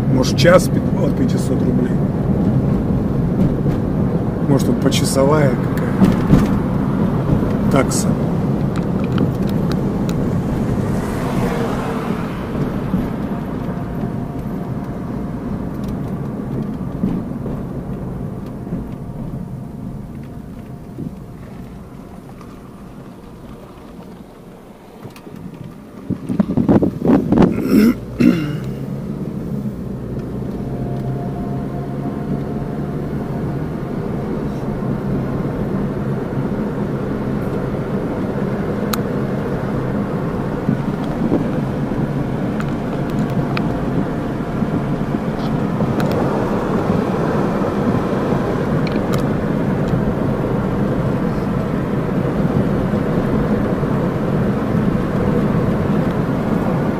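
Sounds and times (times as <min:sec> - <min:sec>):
car engine hum: 0:00.0 - 0:56.9
tyres rushing on road: 0:00.0 - 0:56.9.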